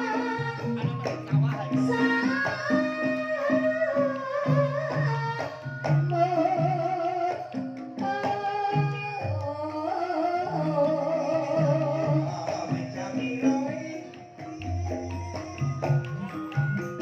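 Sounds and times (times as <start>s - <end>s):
person singing wavering melody: 0.0s - 17.0s.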